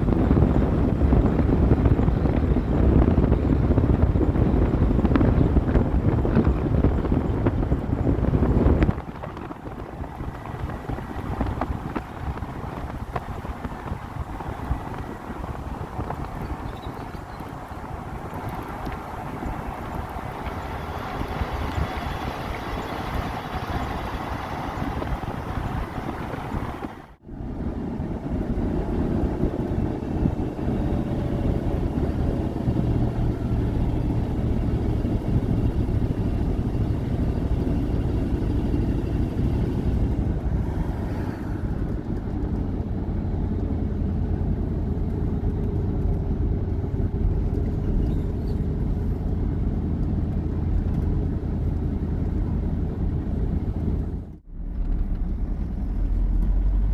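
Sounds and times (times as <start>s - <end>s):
truck engine and road rumble: 0.0s - 56.9s.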